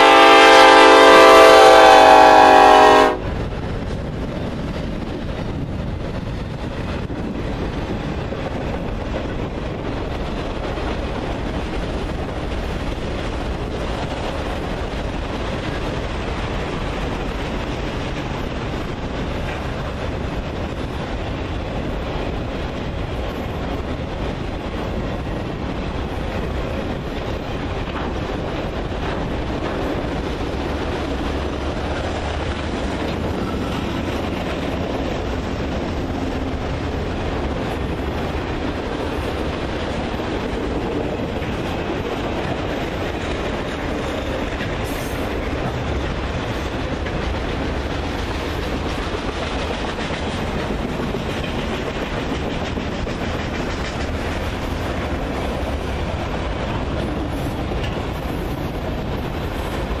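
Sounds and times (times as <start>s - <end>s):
steel wheels rumbling on rail: 0.0s - 60.0s.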